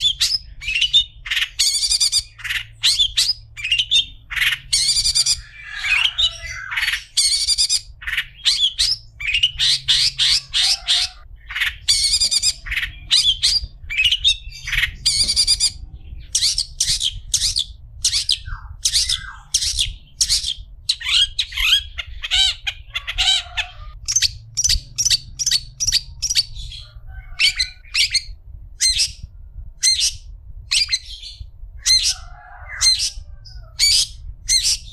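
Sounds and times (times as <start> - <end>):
bird chattering: 0.0 - 28.3
faint low hum: 0.0 - 34.9.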